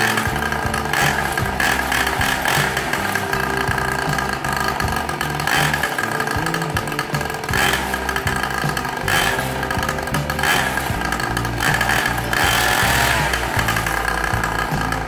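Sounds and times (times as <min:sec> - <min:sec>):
small motorcycle engine revving: 0:00.0 - 0:15.0.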